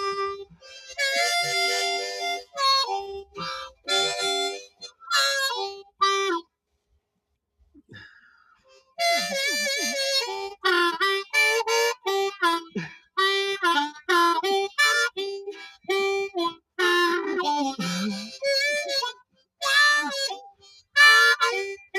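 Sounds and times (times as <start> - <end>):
harmonica melody: 0.0 - 6.5, 7.9 - 21.9.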